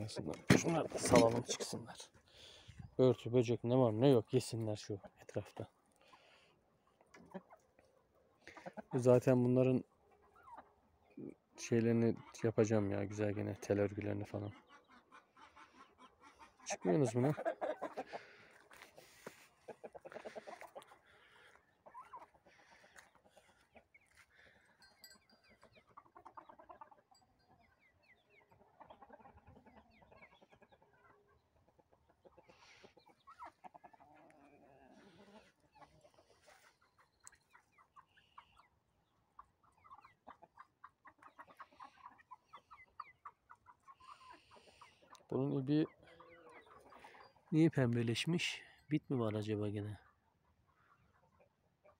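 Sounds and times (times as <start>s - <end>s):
chickens clucking faintly: 0.0s - 51.9s.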